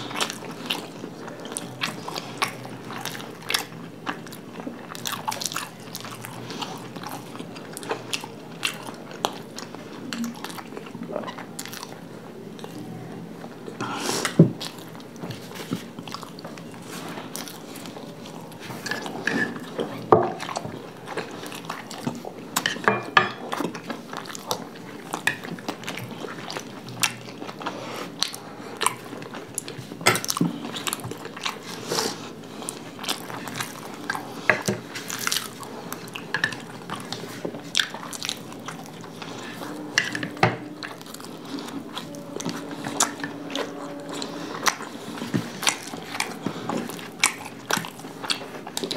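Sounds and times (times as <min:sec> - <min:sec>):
people chewing flatbread: 0:00.0 - 0:48.9.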